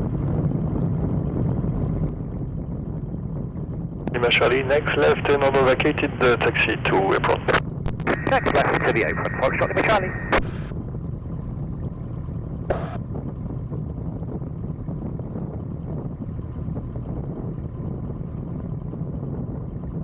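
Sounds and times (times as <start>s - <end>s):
airplane engine drone: 0.0s - 20.0s
engine crackle: 0.0s - 20.0s.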